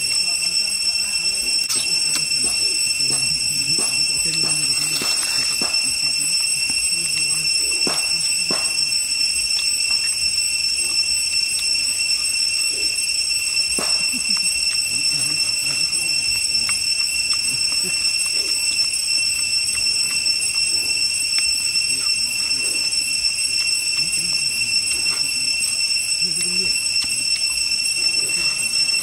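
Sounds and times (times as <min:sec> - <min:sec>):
cicadas droning: 0:00.0 - 0:29.0
soft chewing and crunches: 0:00.0 - 0:29.0.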